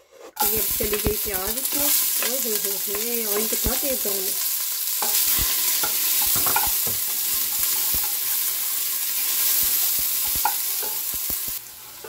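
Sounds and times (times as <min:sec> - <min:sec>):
onion sizzling in hot oil: 0:00.4 - 0:12.0.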